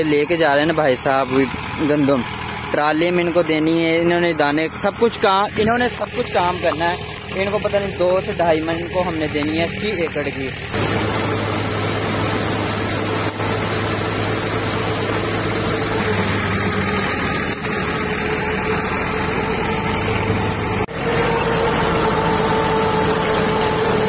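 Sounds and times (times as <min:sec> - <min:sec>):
thresher machine drone: 0:00.0 - 0:24.0
tractor engine hum: 0:00.0 - 0:24.0.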